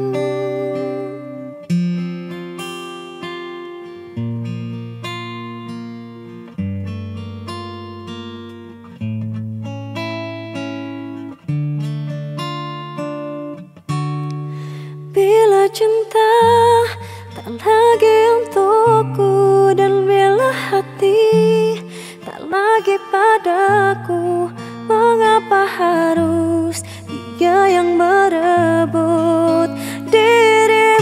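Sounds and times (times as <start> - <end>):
acoustic guitar plucked chords: 0.0 - 31.0.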